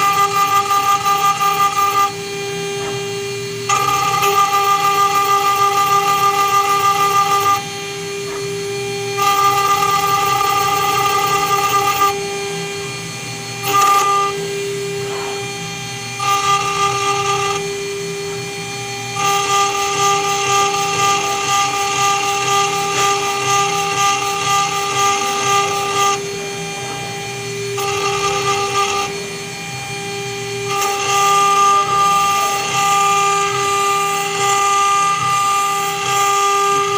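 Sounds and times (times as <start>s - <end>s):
router spindle cutting metal: 0.0s - 36.9s.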